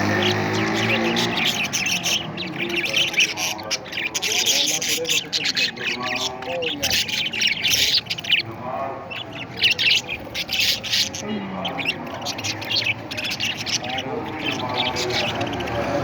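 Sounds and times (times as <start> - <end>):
parrots squawking and chirping: 0.0 - 16.0.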